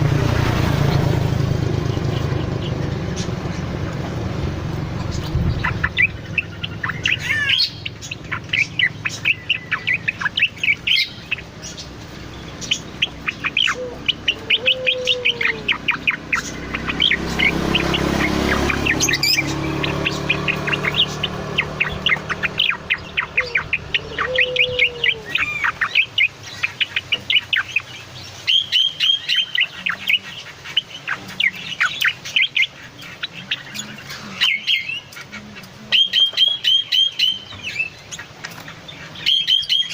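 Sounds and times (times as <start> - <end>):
rushing background noise: 0.0 - 39.9
songbird chirping and trilling: 0.0 - 39.9.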